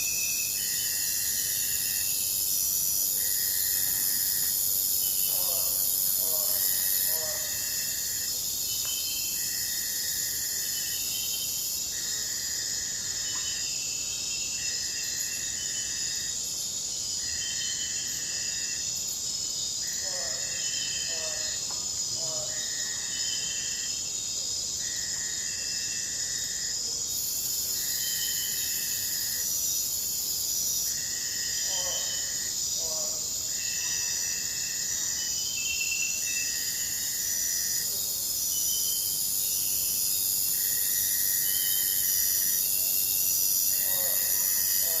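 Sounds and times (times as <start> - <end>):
insect call in bursts: 0.0 - 45.0
insect chorus: 0.0 - 45.0.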